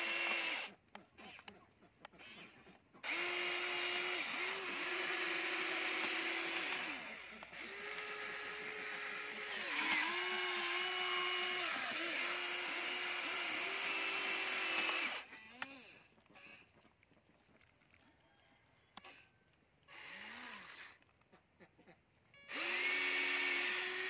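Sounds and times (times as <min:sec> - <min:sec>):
toy excavator motors whining: 0:00.0 - 0:16.7, 0:18.9 - 0:24.0.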